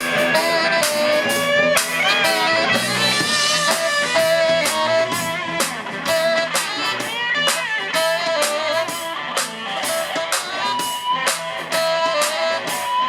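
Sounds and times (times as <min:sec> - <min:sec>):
bass: 0:00.0 - 0:13.0
drum kit: 0:00.0 - 0:13.0
electric guitar: 0:00.0 - 0:13.0.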